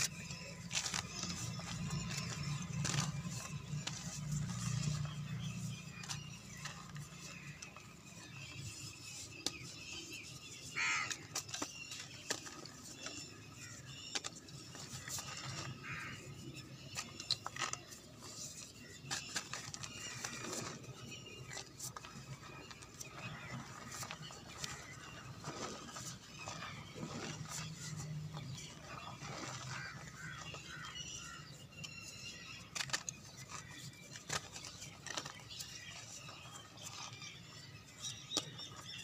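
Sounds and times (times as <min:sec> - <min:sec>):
chalk crumbling and crunching: 0:00.0 - 0:39.0.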